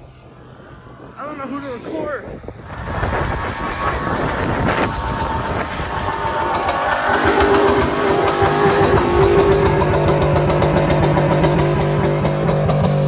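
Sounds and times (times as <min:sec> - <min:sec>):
truck engine revving: 0:02.5 - 0:13.0.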